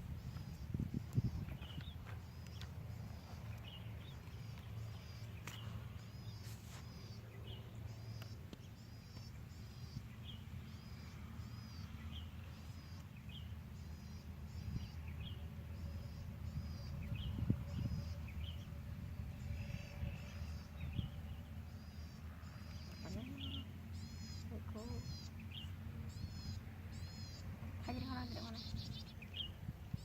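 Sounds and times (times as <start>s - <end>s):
bird chirping: 0.2s - 30.0s.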